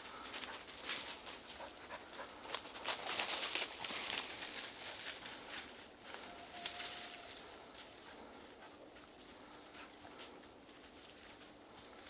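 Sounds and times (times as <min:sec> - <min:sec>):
dry leaves crackling and rustling: 0:00.0 - 0:01.7, 0:02.4 - 0:12.0.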